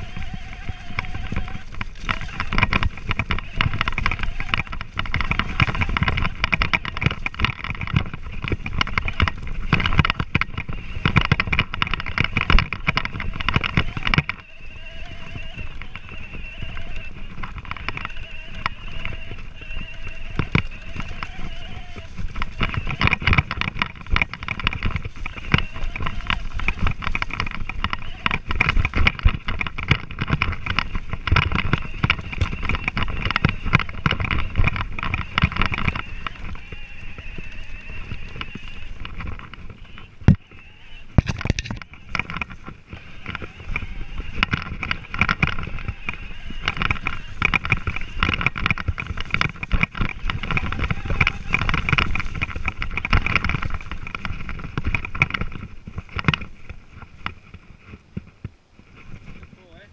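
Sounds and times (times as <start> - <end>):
bike rattling and knocking: 0.0 - 59.8.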